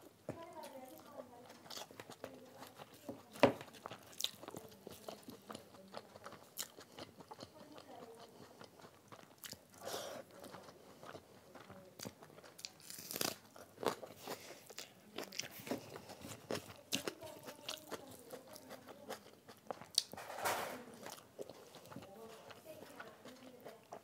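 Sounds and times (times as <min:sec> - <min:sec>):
person chewing food: 0:00.0 - 0:20.2, 0:21.0 - 0:24.0.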